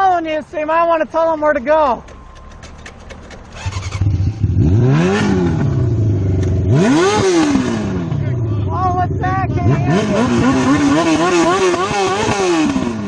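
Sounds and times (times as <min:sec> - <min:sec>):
motorcycle engine revving: 0:02.1 - 0:13.0.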